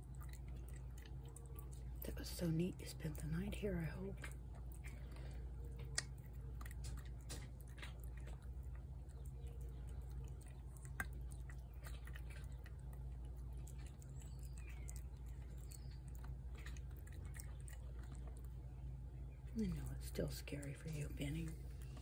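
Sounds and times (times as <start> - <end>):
cat chewing food: 0.0 - 22.0
steady low hum: 0.0 - 22.0.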